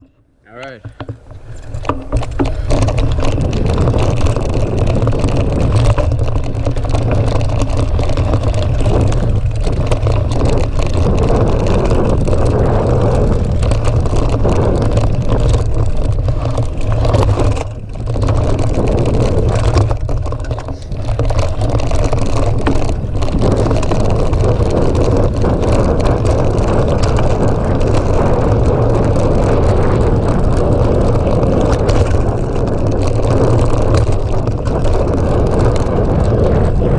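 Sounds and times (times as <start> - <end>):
tyres rolling over trail: 0.0 - 36.9
wind on microphone: 0.0 - 36.9.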